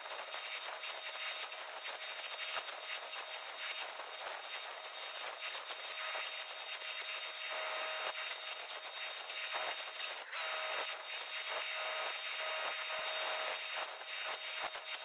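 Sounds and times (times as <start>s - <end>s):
electric arc welding crackling: 0.0s - 15.0s
faint high whine: 0.0s - 15.0s.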